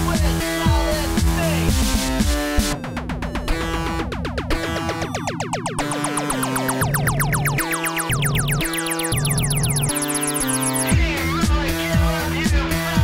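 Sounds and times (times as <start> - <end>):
electronic music: 0.0 - 13.0.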